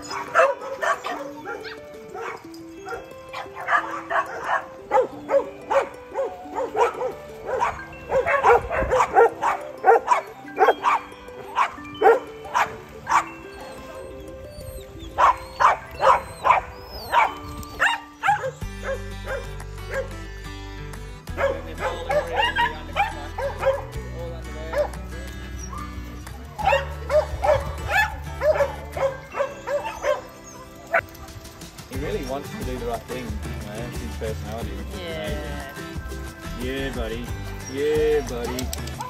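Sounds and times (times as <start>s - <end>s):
dogs barking: 0.0s - 20.3s, 21.3s - 34.6s, 36.7s - 39.0s
background music with bass line: 0.0s - 39.0s.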